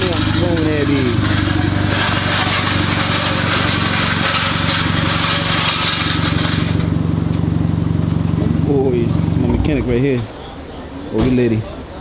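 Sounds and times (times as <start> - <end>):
car engine running: 0.0 - 10.3.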